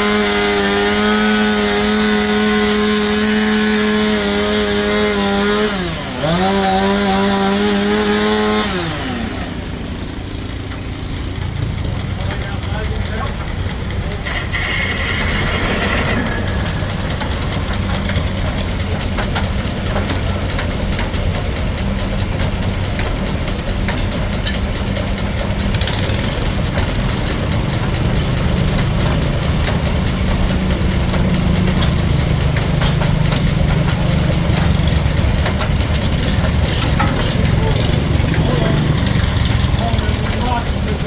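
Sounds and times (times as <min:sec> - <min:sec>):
steam engine running: 0:00.0 - 0:41.0.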